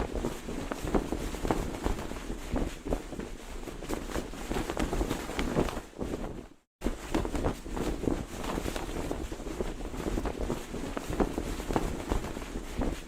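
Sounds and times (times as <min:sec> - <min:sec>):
flag flapping in wind: 0:00.0 - 0:13.0.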